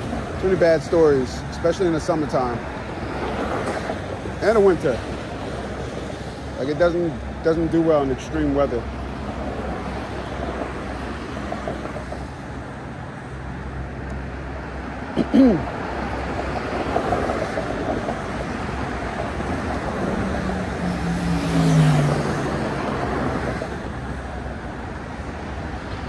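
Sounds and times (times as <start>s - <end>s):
vehicle passing: 0.0s - 26.0s
wind and road noise: 0.0s - 26.0s.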